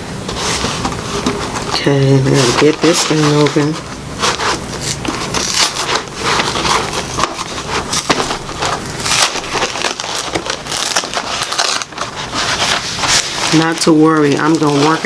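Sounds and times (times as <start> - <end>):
packaging crackling and crinkling: 0.3 - 15.0.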